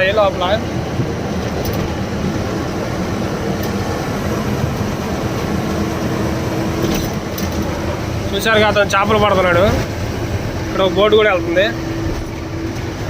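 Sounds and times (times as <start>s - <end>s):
lorry engine drone: 0.0s - 13.0s
road noise: 0.0s - 13.0s.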